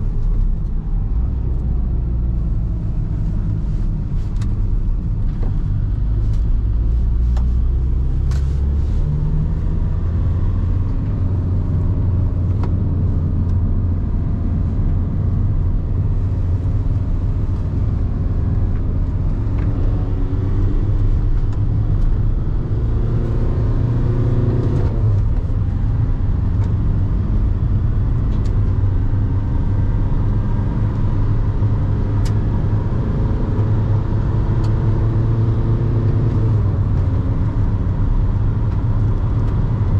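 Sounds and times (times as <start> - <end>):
diesel engine accelerating: 0.0 - 39.9
road drone: 0.0 - 39.9.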